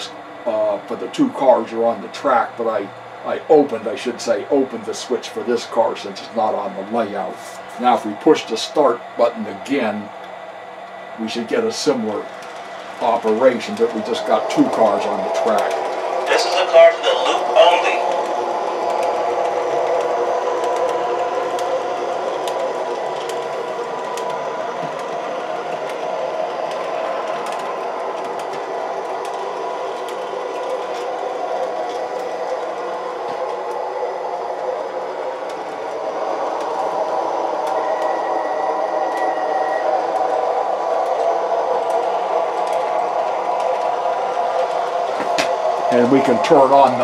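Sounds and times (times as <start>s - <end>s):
model streetcar motor humming: 0.0s - 47.0s.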